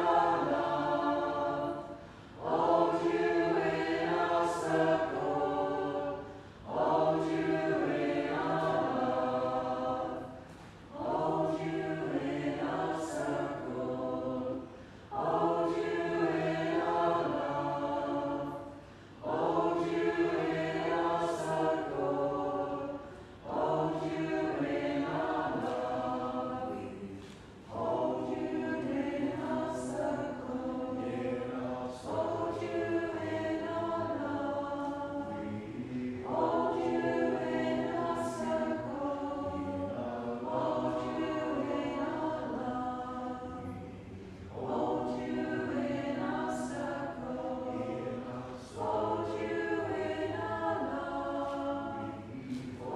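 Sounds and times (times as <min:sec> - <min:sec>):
choir singing unaccompanied: 0:00.0 - 0:52.9.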